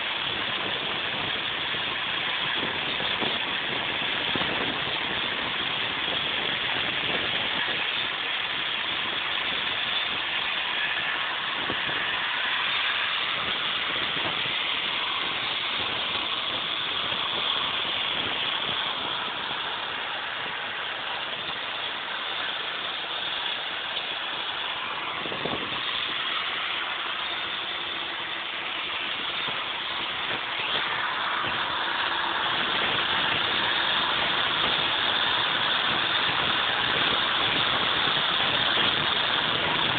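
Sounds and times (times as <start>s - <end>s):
power grinder cutting mortar: 0.0s - 39.9s.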